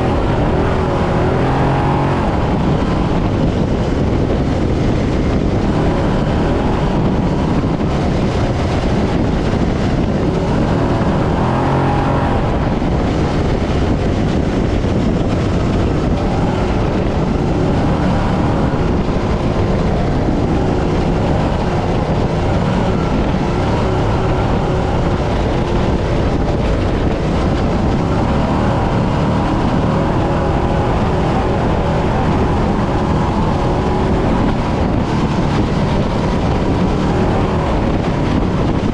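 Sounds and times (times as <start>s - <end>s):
chassis and terrain noise: 0.0s - 38.9s
truck engine running: 0.0s - 38.9s.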